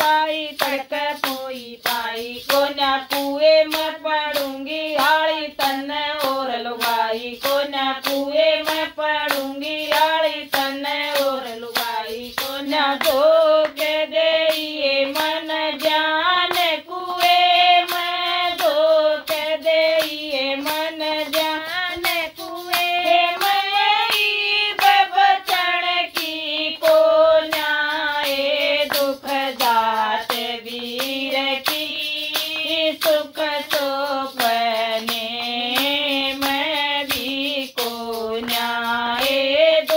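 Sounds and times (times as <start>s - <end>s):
hand claps keeping time: 0.0s - 39.9s
woman singing folk song: 0.0s - 39.9s.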